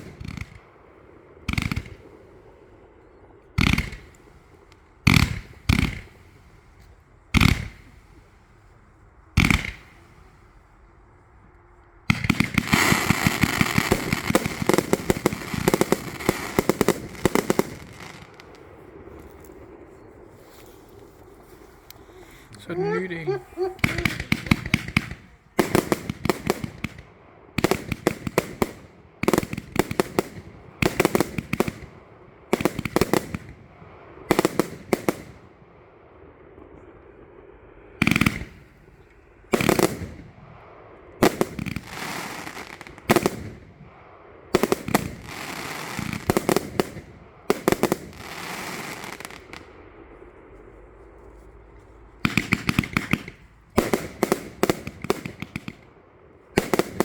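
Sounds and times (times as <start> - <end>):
firework bangs: 0.0 - 8.6, 9.3 - 10.7, 12.1 - 50.6, 51.6 - 57.0
firework crackling: 0.0 - 11.3, 12.0 - 36.4, 37.3 - 57.0.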